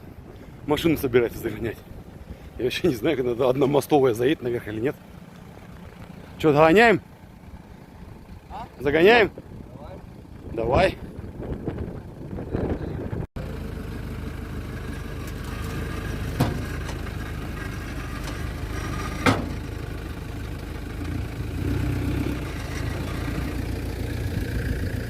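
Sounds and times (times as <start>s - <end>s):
car engine idling: 0.1s - 25.0s.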